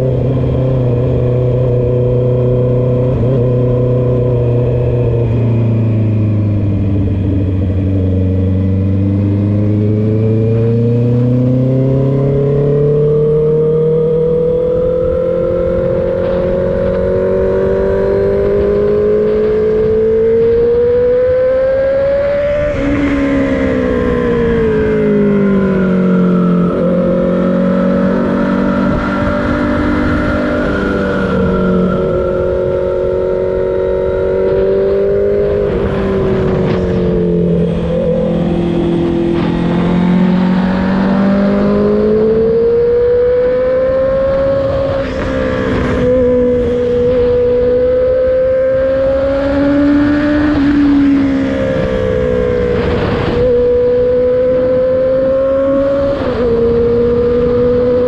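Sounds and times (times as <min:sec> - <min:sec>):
loud motorcycle engine revving: 0:00.0 - 0:58.0.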